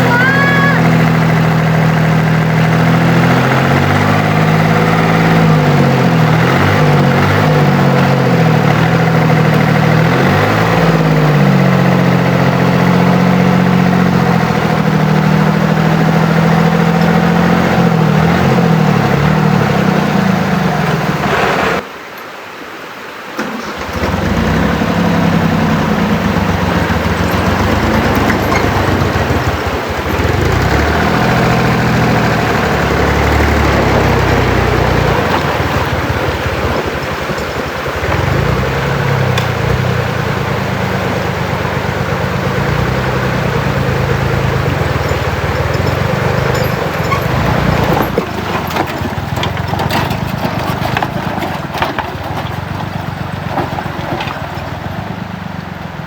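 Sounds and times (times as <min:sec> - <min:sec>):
engine idling: 0:00.0 - 0:21.8, 0:23.4 - 0:56.0.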